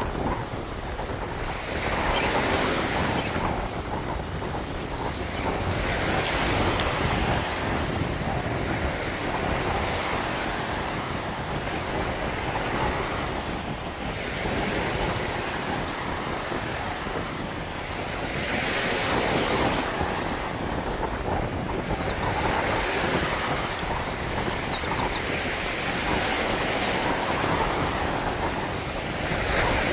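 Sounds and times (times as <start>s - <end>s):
surf washing up sand: 0.0s - 29.9s
wind buffeting microphone: 0.0s - 29.9s.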